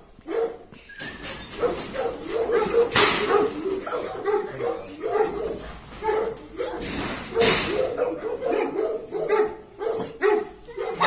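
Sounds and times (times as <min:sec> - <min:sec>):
dogs whining and yipping: 0:00.8 - 0:11.0.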